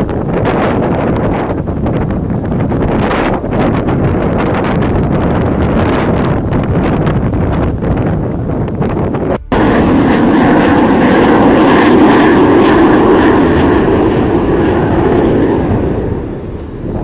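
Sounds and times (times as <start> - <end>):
fighter jets flying past: 0.0 - 17.0.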